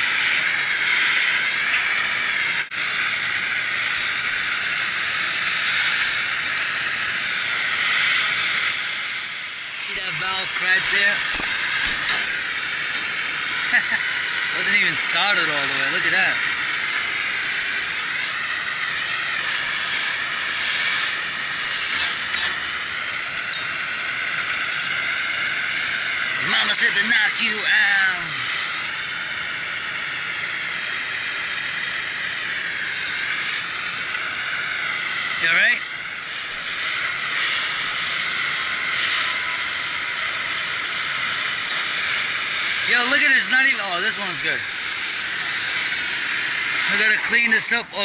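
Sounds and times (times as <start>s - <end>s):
spraying water hiss: 0.0s - 48.0s.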